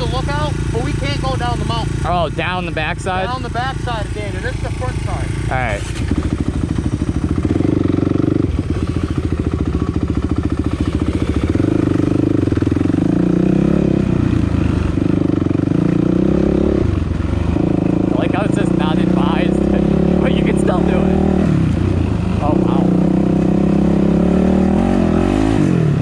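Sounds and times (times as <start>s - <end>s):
dirt bike engine: 0.0s - 26.0s.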